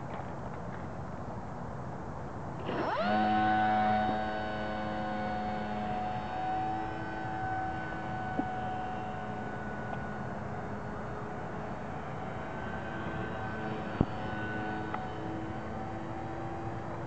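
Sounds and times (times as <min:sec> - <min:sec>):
electric motor propeller whine: 0:02.6 - 0:17.0.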